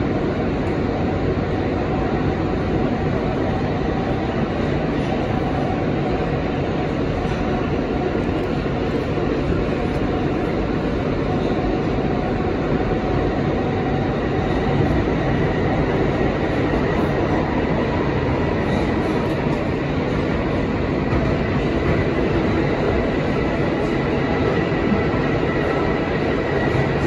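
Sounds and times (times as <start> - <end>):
subway train wheels rumbling: 0.0 - 27.0.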